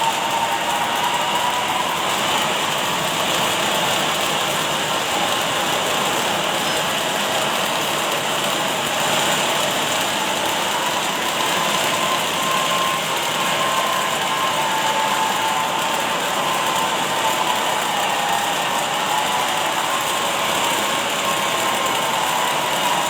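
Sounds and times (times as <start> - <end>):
welding machine hiss and hum: 0.0 - 23.0.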